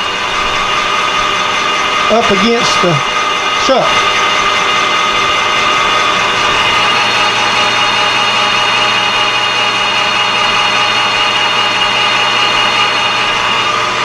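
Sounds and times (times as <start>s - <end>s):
metal lathe whining: 0.0s - 14.0s.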